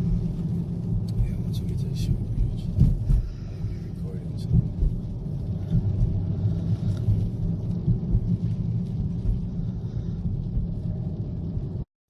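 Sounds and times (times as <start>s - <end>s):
car driving rumble from inside: 0.0s - 11.9s.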